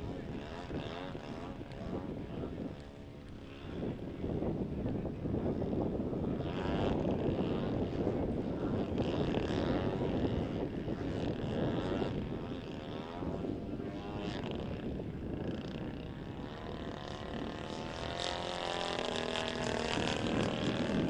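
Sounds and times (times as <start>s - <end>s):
model airplane engine and propeller: 0.0s - 21.0s.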